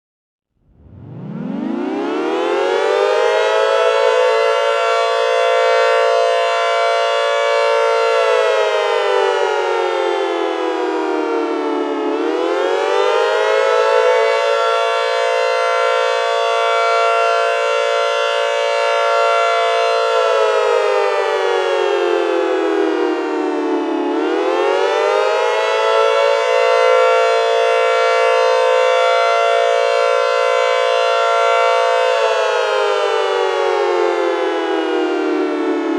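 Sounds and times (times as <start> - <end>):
four-tone warning siren: 0.5 - 35.9.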